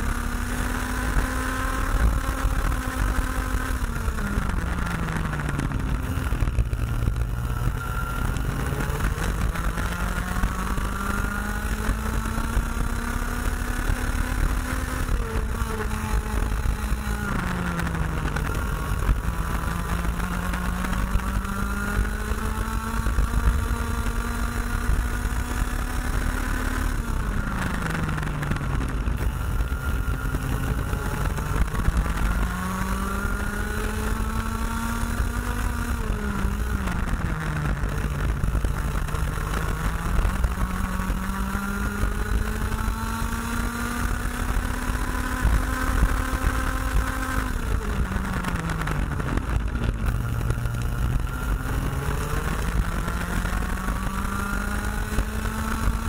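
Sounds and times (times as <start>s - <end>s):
kart engine at racing speed: 0.0s - 56.0s.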